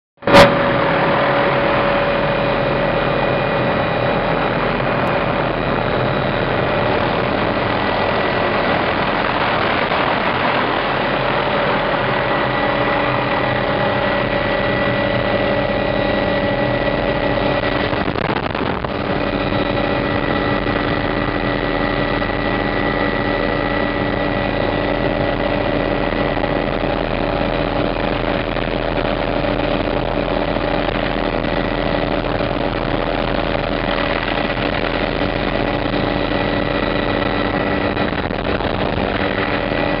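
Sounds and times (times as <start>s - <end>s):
helicopter rotor running: 0.2s - 40.0s
helicopter turbine whine: 0.2s - 40.0s.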